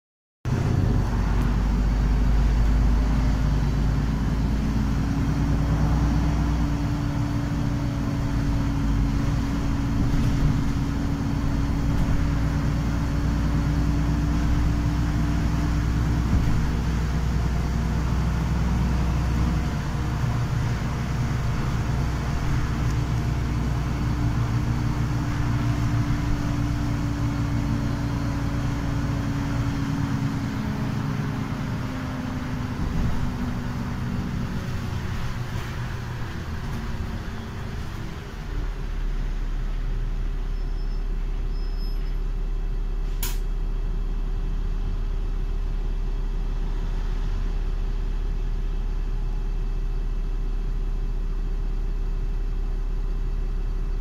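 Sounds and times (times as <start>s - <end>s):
bus drive hum: 0.4s - 54.0s
tyres on wet road: 0.5s - 50.8s.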